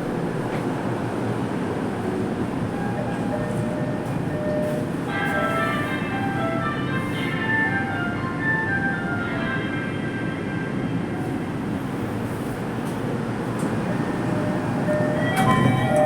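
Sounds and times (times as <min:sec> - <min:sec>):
subway car running: 0:00.0 - 0:16.0.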